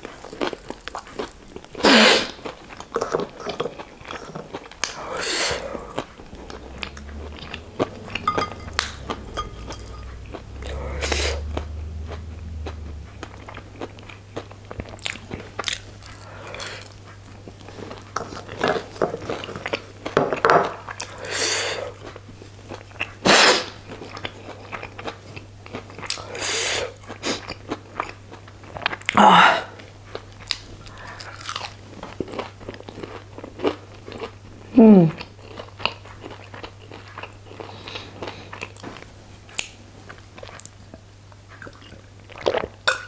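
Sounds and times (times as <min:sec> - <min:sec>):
crunchy chewing and biting: 0:00.0 - 0:09.0, 0:09.7 - 0:29.2, 0:29.8 - 0:41.0.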